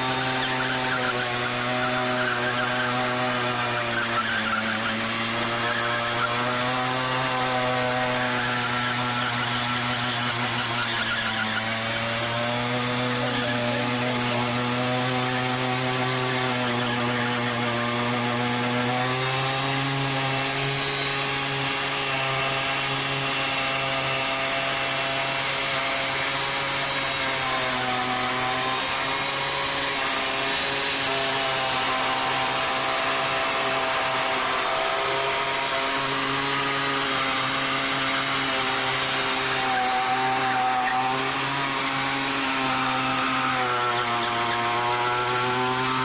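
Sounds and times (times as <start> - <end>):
moped engine revving high: 0.0 - 46.0.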